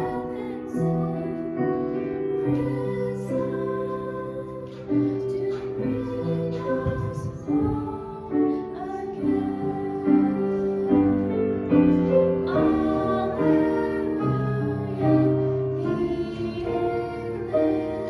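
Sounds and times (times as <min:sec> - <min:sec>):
piano accompaniment: 0:00.0 - 0:18.0
voices singing slow song: 0:00.0 - 0:18.0.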